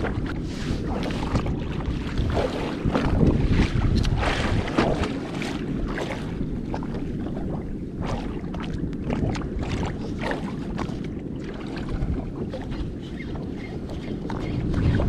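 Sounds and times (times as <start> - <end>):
water slapping against hull: 0.0 - 15.0
wind rumble on microphone: 0.0 - 15.0.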